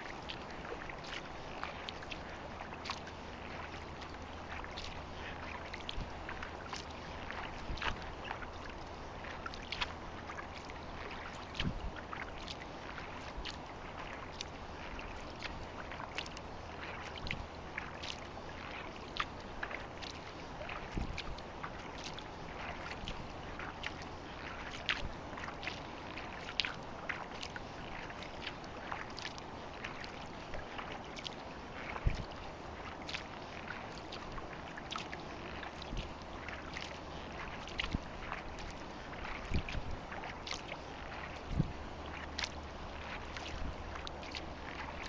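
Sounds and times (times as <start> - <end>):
water lapping against hull: 0.0 - 45.0
wind and water rush: 0.0 - 45.0.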